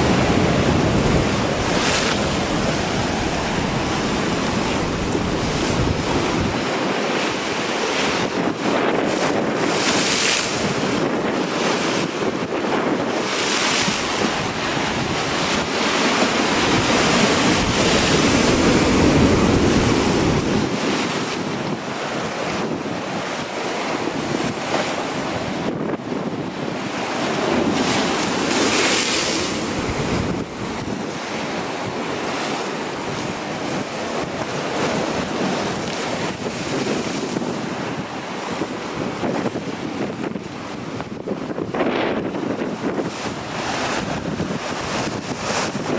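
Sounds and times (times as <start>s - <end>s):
surf rushing: 0.0s - 45.9s
wind buffeting microphone: 0.0s - 45.9s.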